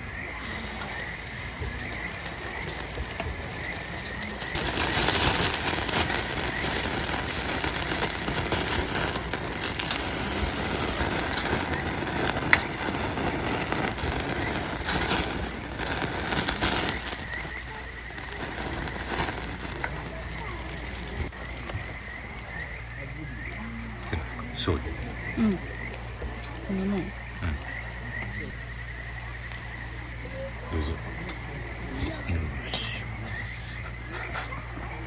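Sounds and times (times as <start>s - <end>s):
food sizzling on a grill: 0.2s - 35.0s.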